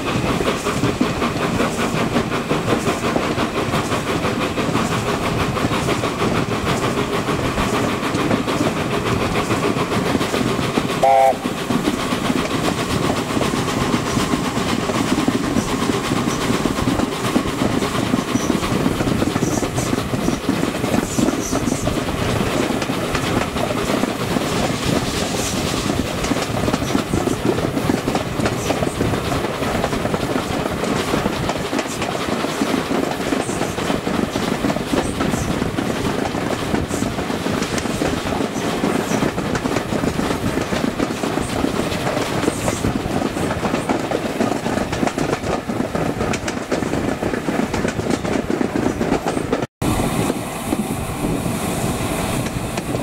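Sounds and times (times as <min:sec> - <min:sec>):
train rumble and wheel clatter: 0:00.0 - 0:53.0.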